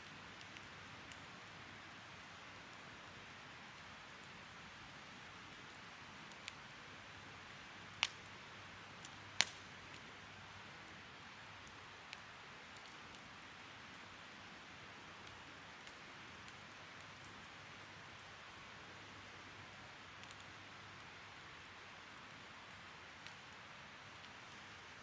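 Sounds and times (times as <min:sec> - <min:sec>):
fire crackling pops: 0:00.0 - 0:03.3, 0:04.1 - 0:17.8, 0:19.6 - 0:25.0
wood fire hissing: 0:00.1 - 0:25.0.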